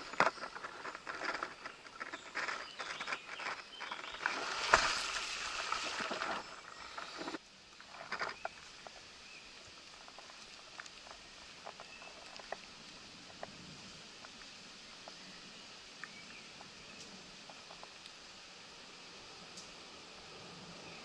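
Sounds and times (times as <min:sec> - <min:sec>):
leaves and twigs rustling: 0:00.0 - 0:18.9.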